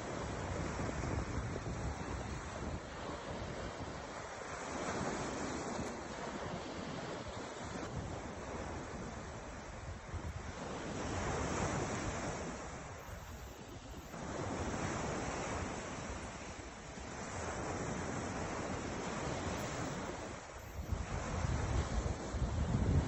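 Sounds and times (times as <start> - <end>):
ocean waves breaking: 0.0 - 23.0
wind buffeting microphone: 0.1 - 23.0.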